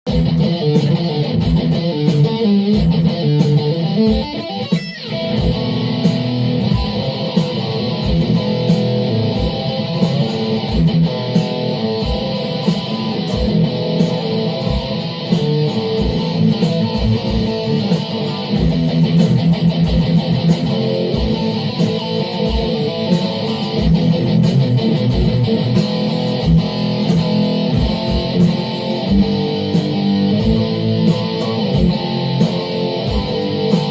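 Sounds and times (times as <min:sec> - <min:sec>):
guitar improvisation: 0:00.1 - 0:33.9.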